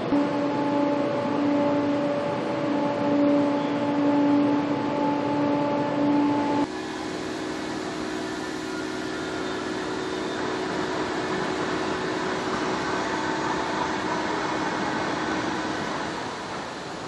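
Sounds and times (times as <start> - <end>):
faint steady hums: 0.0 - 17.0
machinery rushing noise: 0.0 - 17.0.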